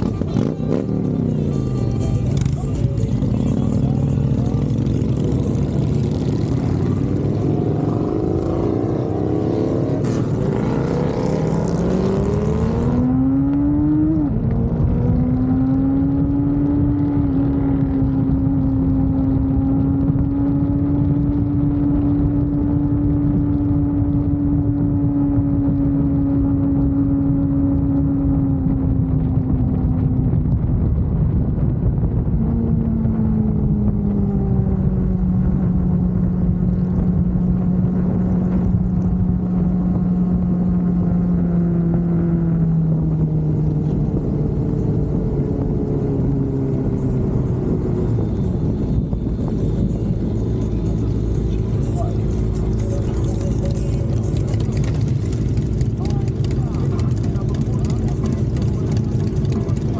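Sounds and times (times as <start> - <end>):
motorcycle engine revving: 0.0 - 59.9
road and wind noise: 0.0 - 59.9.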